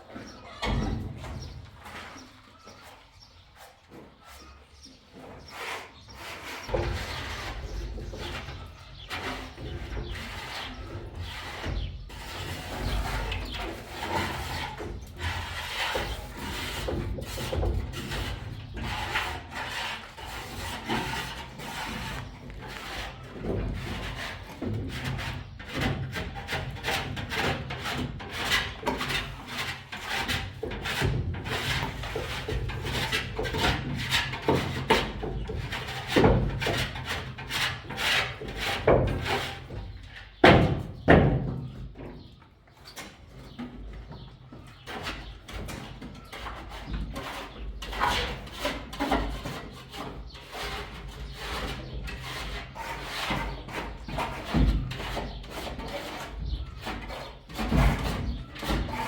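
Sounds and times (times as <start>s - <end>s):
rubbing and scraping on wood: 0.0s - 59.0s.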